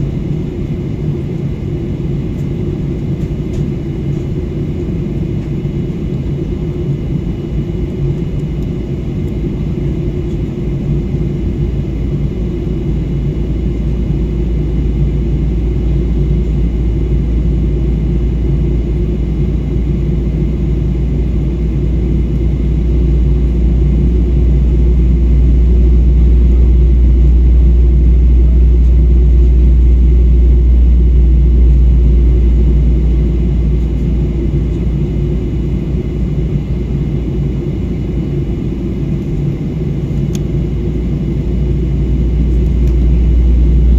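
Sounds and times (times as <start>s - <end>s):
jet engine rumble inside cabin: 0.0s - 43.9s.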